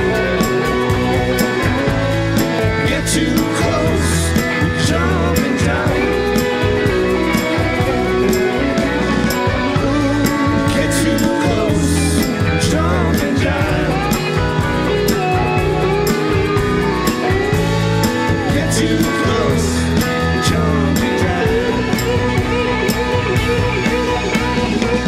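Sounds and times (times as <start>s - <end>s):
bass guitar: 0.0s - 25.0s
drum kit with cymbal hits: 0.0s - 25.0s
electric guitars: 0.0s - 25.0s.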